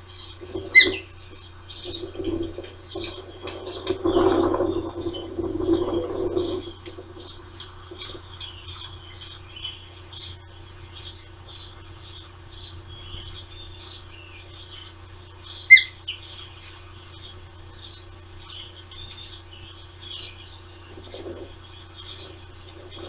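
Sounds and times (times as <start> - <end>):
low electrical hum: 0.0 - 23.0
ospreys chirping: 0.0 - 23.0.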